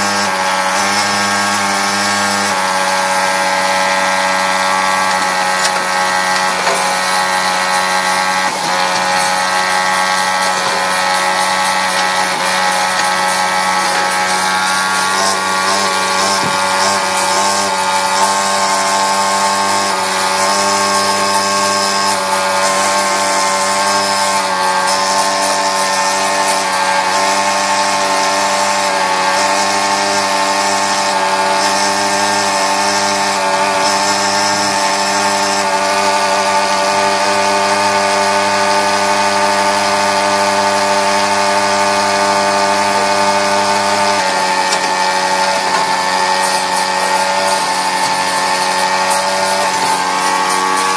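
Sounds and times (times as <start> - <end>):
cutting machine whine: 0.0 - 50.9.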